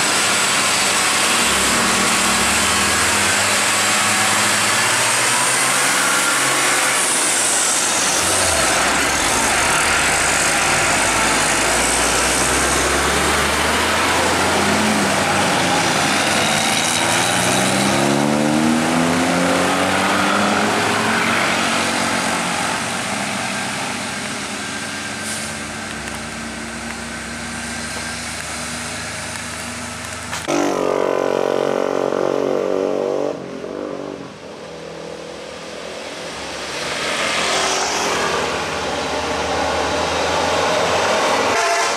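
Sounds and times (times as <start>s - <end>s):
truck diesel engine under load: 0.0s - 41.9s.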